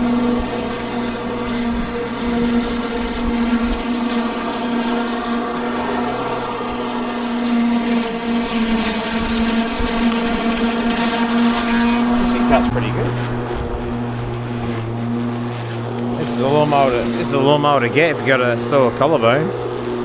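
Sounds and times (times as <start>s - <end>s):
electric lawn mower whine: 0.0s - 20.0s.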